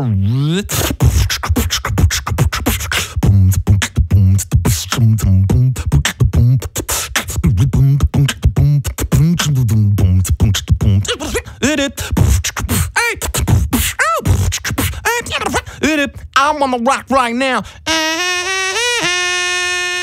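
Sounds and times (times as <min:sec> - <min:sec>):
man beatboxing: 0:00.0 - 0:17.9.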